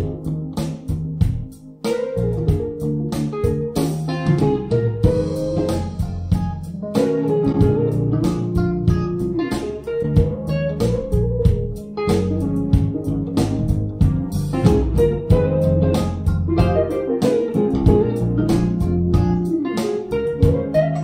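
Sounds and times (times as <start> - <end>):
guitar music with deep bass: 0.0 - 21.0.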